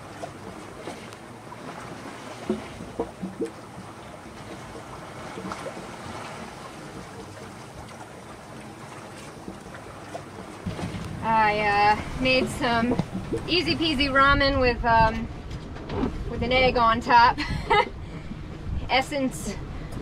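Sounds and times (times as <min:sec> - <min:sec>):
water rushing along hull: 0:00.0 - 0:20.0
wind: 0:00.0 - 0:20.0.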